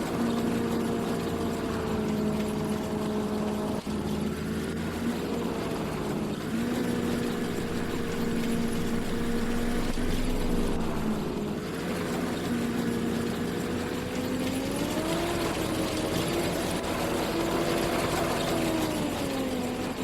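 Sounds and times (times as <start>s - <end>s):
machinery engine running: 0.0s - 20.0s.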